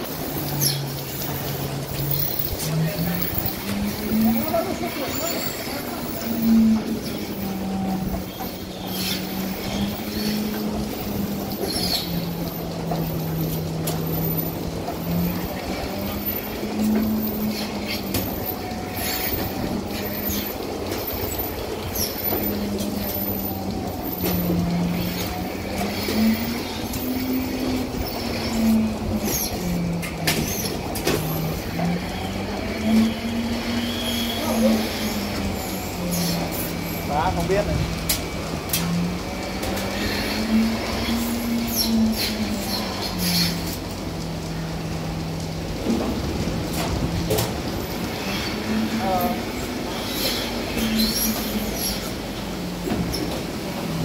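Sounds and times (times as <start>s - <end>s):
clicks and air hisses: 0.0s - 54.0s
milking machinery humming: 0.0s - 54.0s.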